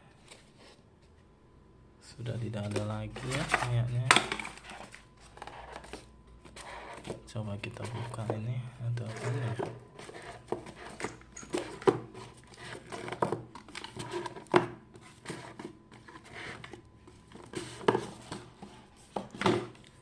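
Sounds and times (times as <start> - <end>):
cardboard and paper rustling: 2.2 - 19.8.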